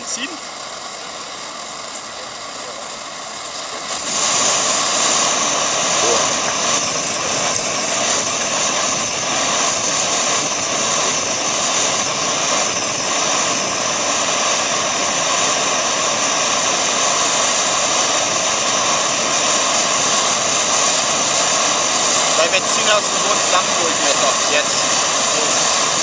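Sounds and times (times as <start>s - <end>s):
camping stove burning hiss: 0.0s - 26.0s.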